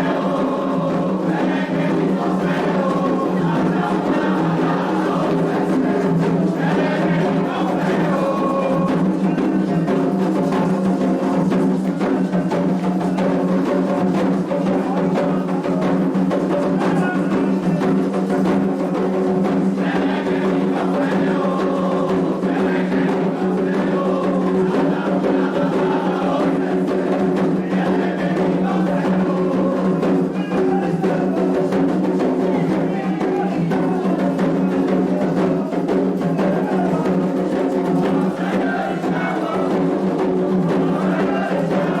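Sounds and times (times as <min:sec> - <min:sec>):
bell-like clacking percussion: 0:00.0 - 0:42.0
hand drums playing rhythm: 0:00.0 - 0:42.0
voices singing: 0:00.0 - 0:42.0.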